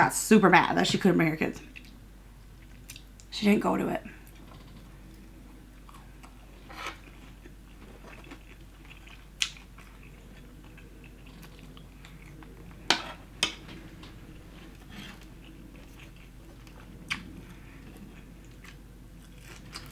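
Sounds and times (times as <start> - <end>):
quiet chewing: 1.6 - 3.3, 4.2 - 19.9.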